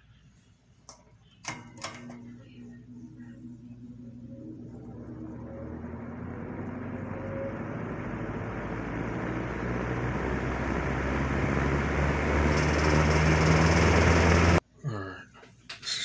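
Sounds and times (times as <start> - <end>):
box fan motor hum and air rush: 1.5 - 14.6.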